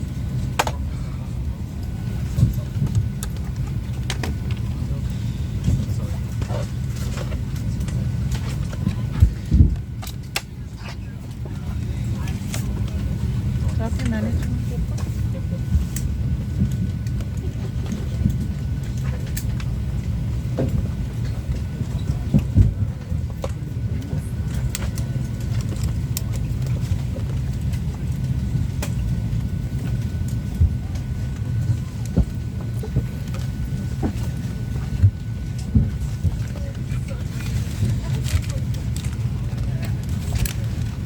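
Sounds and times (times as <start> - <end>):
faint steady whine: 0.0 - 41.0
low aircraft cabin rumble: 0.0 - 41.0.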